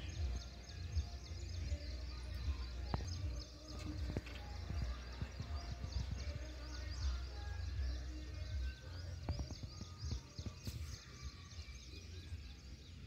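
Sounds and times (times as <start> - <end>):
wind rumble on microphone: 0.0 - 11.2
small birds chirping: 0.0 - 13.0.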